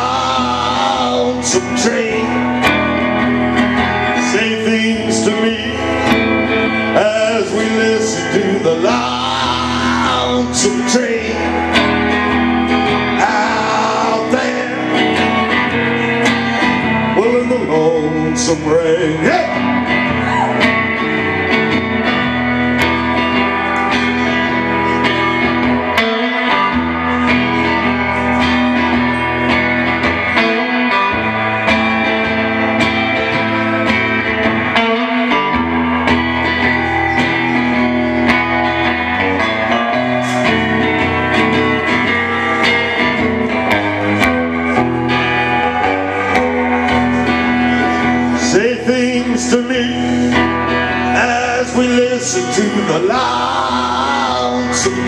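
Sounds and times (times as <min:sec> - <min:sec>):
electric guitar through amplifier: 0:00.0 - 0:55.0.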